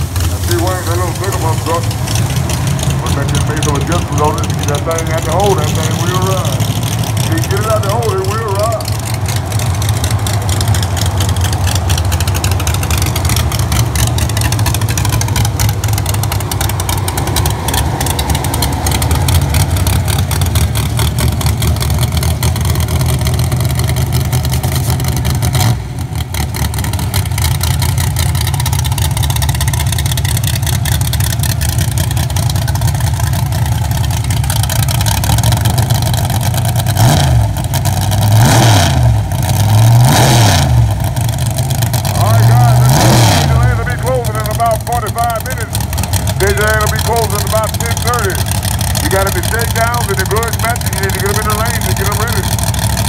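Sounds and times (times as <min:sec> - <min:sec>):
pickup truck engine idling loudly: 0:00.0 - 0:53.0.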